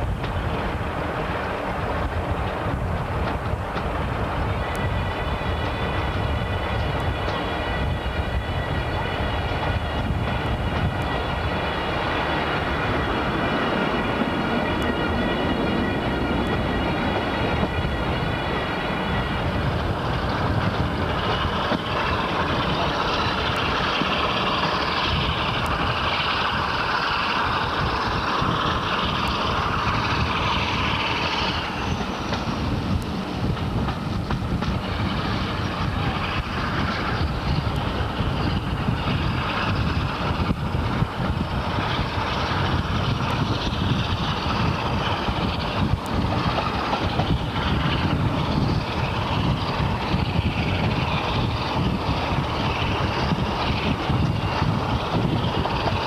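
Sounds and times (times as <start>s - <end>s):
high whine of steady tones: 0.0s - 56.0s
locomotive engine and wheel noise: 0.0s - 56.0s.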